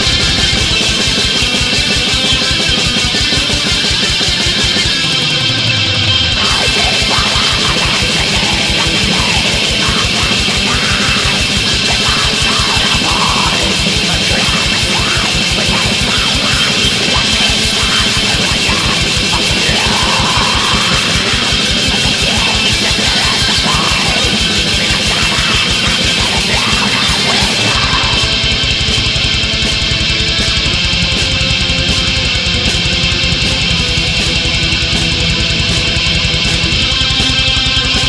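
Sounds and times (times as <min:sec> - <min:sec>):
rapid drum beat: 0:00.0 - 0:05.0, 0:06.4 - 0:38.0
distorted guitars: 0:00.0 - 0:38.0.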